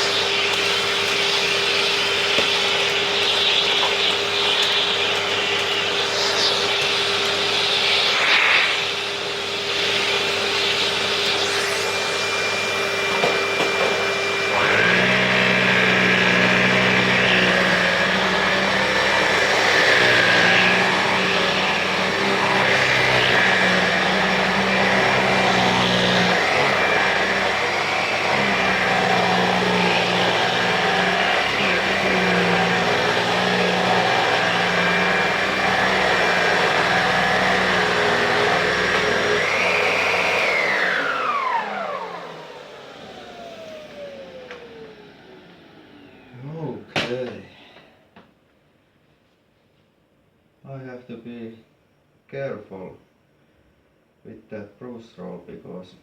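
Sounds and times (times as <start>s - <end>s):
vacuum cleaner running: 0.0s - 48.2s.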